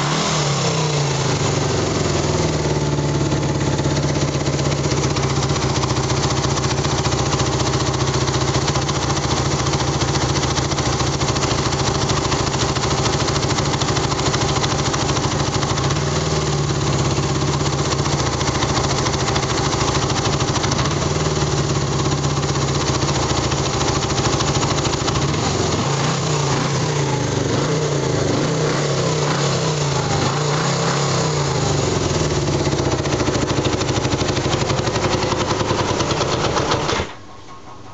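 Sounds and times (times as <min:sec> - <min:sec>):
rattly motorcycle engine idling: 0:01.0 - 0:37.9.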